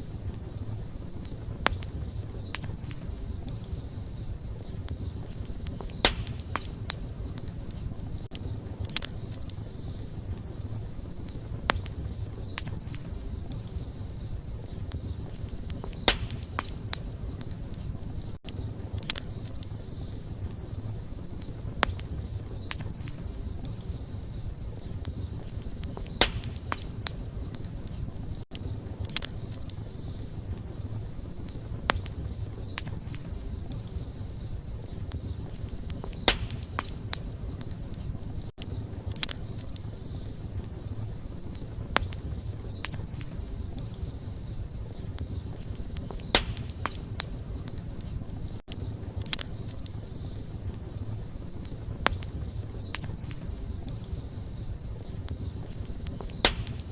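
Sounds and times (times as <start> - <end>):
burning wood crackling and popping: 0.0 - 56.9.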